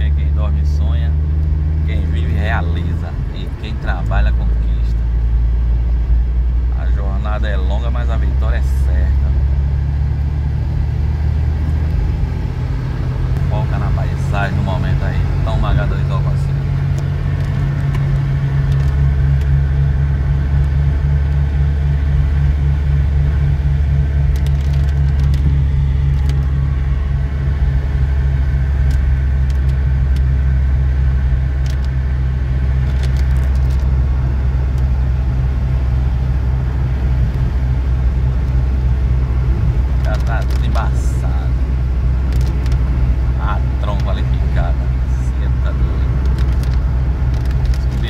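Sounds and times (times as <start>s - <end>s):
vehicle engine drone and road noise: 0.0s - 48.0s.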